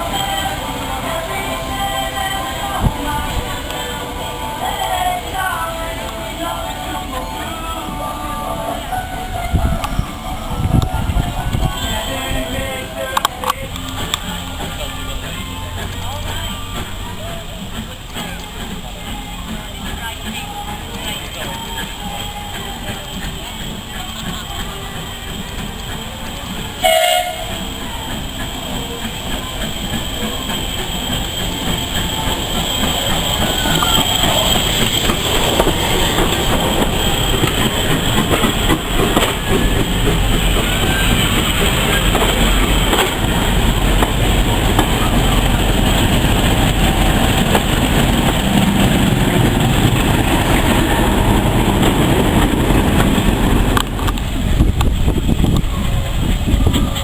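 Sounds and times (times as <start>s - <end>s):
train running along rails: 0.0s - 57.0s.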